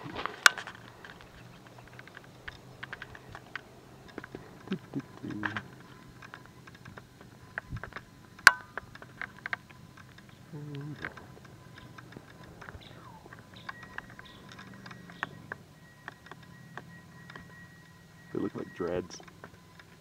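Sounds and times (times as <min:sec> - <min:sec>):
light clicks and crackles: 0:00.0 - 0:18.0.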